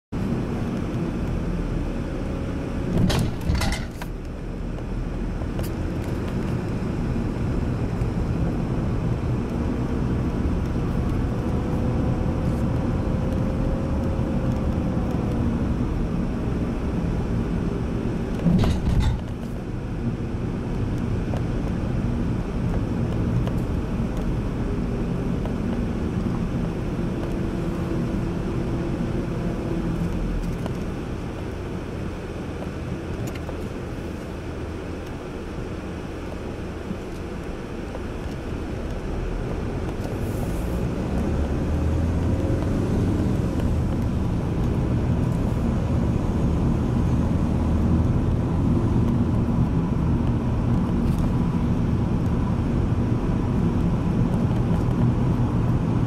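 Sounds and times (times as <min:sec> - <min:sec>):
car engine and tyre noise: 0:00.1 - 0:56.0.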